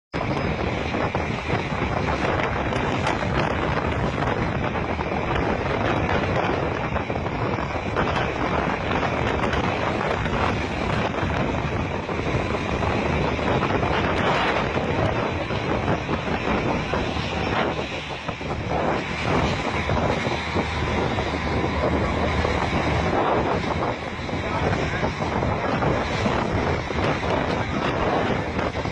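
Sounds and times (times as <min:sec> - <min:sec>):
wind buffeting microphone: 0:00.1 - 0:28.9
rough sea rushing: 0:00.2 - 0:28.9.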